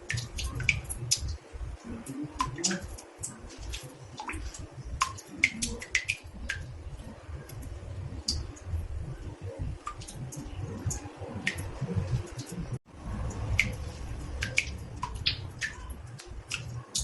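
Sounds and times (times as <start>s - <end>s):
water drops dripping into bathtub: 0.0s - 17.0s.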